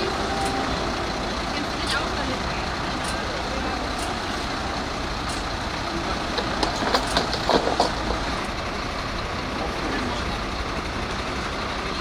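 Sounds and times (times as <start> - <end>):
low rumble of vehicle engines: 0.0 - 12.0.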